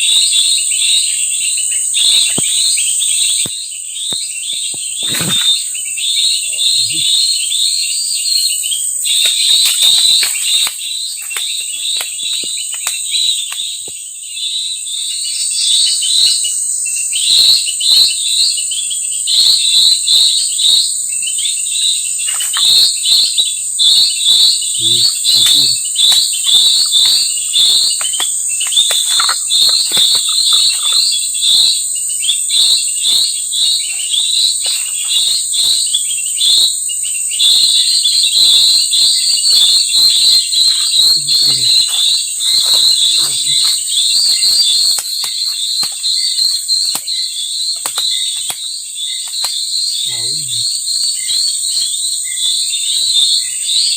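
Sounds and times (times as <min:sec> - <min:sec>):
high-pitched insect drone: 0:00.0 - 0:53.9
small birds chirping: 0:00.0 - 0:53.9.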